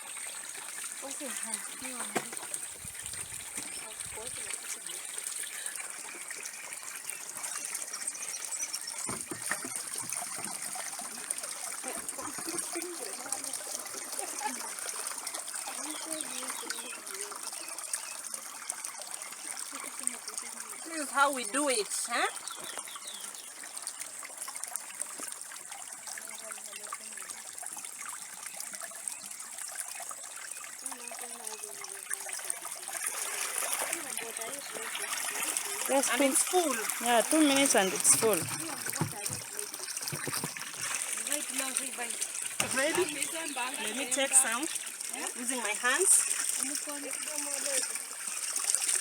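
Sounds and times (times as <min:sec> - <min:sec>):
water running with hissing gush: 0:00.0 - 0:49.0.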